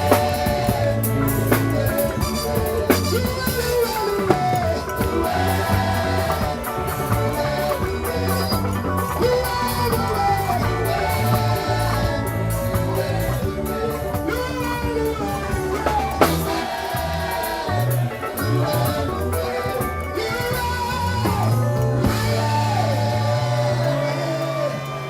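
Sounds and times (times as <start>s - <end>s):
gospel band music: 0.0s - 25.0s.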